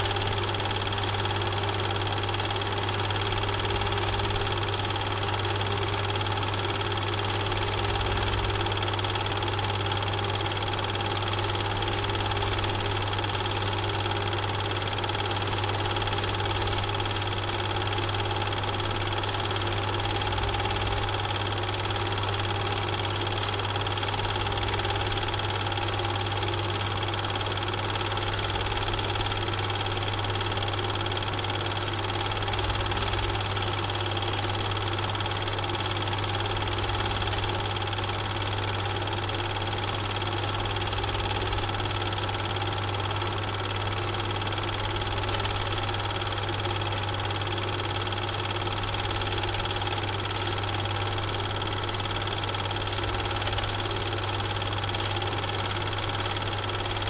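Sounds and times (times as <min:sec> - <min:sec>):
film projector running: 0:00.0 - 0:57.0.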